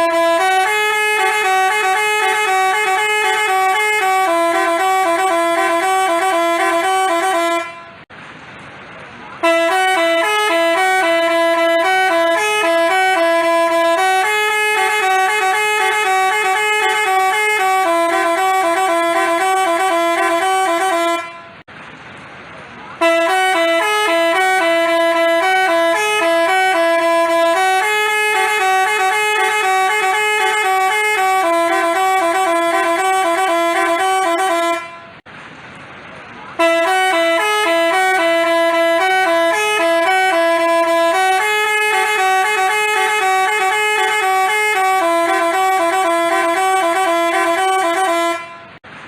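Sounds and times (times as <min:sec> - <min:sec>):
musical bus horn playing tune: 0:00.0 - 0:08.1, 0:09.4 - 0:21.7, 0:23.0 - 0:35.3, 0:36.6 - 0:48.8.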